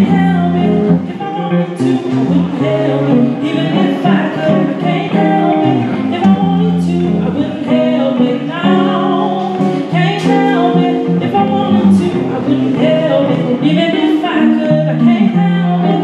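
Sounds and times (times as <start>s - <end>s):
live instrumental accompaniment: 0.0s - 16.0s
woman singing into microphone: 0.0s - 16.0s.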